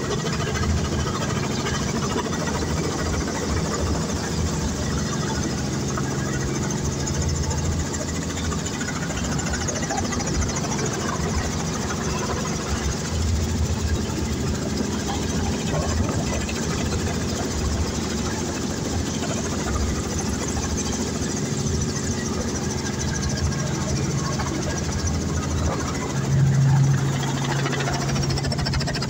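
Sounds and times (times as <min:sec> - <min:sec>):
helicopter engine and rotors: 0:00.0 - 0:29.0.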